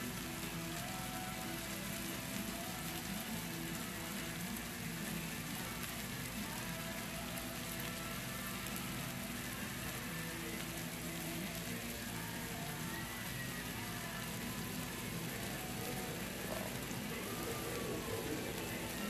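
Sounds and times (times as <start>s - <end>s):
steaks sizzling on a griddle: 0.0s - 19.0s.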